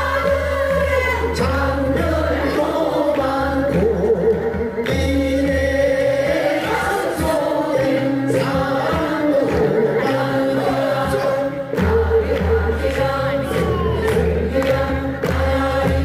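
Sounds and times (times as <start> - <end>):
group singing into microphones: 0.0 - 16.0
instrumental backing: 0.0 - 16.0.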